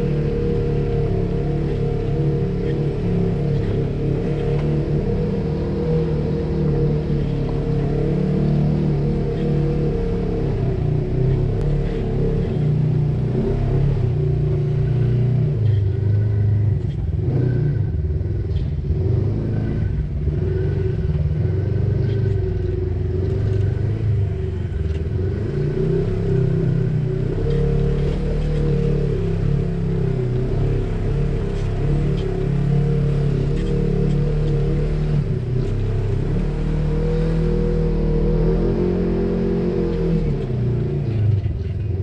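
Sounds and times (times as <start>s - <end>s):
off-road vehicle engine at low revs: 0.0s - 42.0s.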